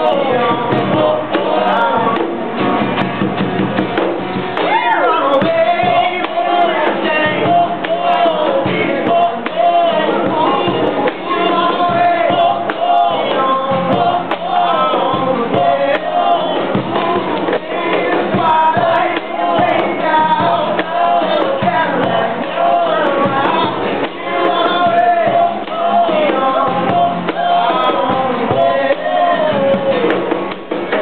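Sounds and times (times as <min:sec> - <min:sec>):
man singing: 0:00.0 - 0:03.0, 0:04.6 - 0:31.0
drums: 0:00.0 - 0:31.0
guitar: 0:00.0 - 0:31.0.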